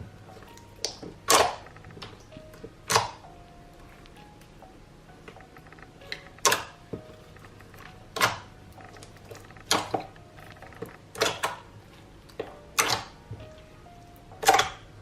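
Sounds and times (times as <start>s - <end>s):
faint background music: 0.0s - 15.0s
slime squelching: 0.0s - 15.0s.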